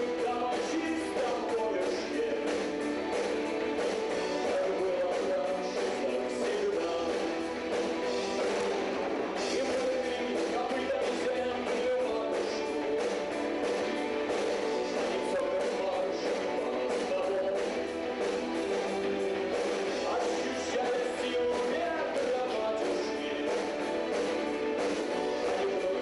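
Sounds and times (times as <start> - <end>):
rock band with electric guitars: 0.0 - 26.0.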